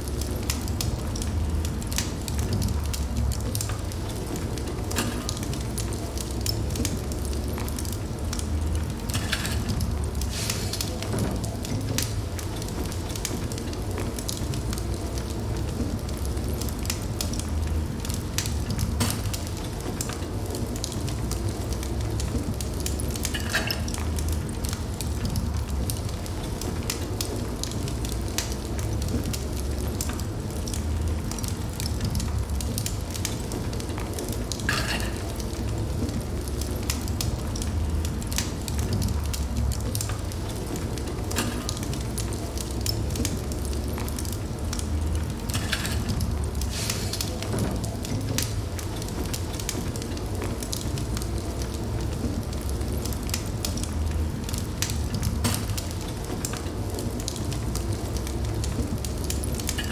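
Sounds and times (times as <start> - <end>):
fire crackles and pops: 0.0 - 59.9
fire flames rumbling: 0.0 - 59.9.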